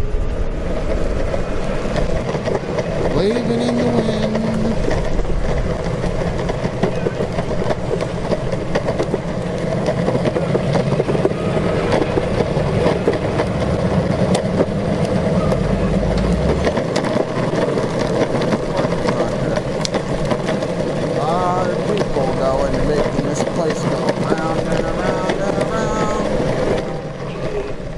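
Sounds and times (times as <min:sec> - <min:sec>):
skateboard wheel rumble on pavement: 0:00.0 - 0:27.9
wind buffeting microphone: 0:00.0 - 0:27.9.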